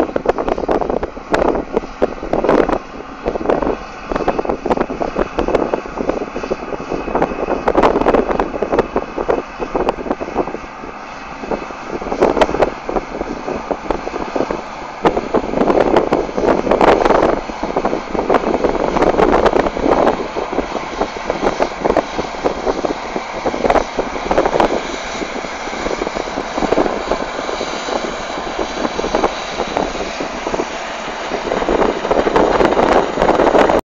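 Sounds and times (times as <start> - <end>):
combine harvester running: 0.0 - 33.8
wind buffeting microphone: 0.0 - 33.8.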